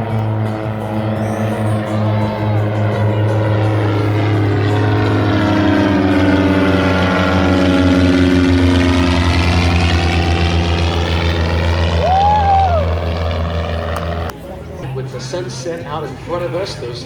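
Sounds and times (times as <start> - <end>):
propeller airplane engine drone: 0.0 - 17.0.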